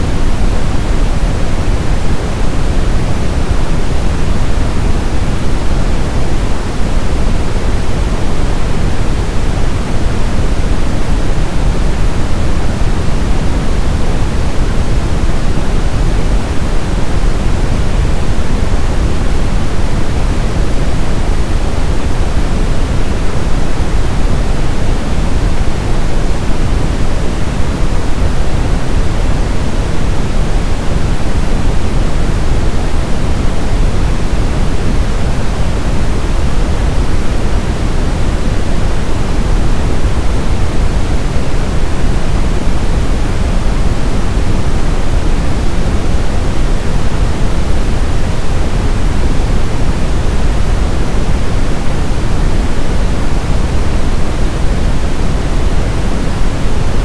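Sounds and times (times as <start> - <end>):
brown noise: 0.0 - 57.0.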